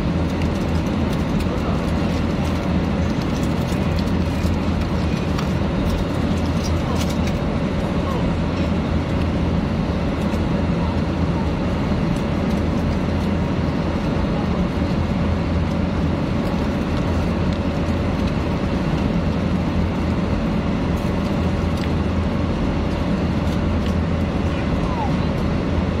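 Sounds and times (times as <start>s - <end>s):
airliner cabin drone: 0.0s - 26.0s
faint constant hum: 0.0s - 26.0s.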